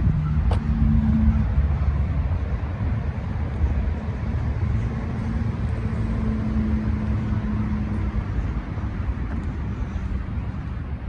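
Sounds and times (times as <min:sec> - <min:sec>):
road traffic rumbling: 0:00.0 - 0:11.0
vehicle engine hum: 0:00.0 - 0:11.0.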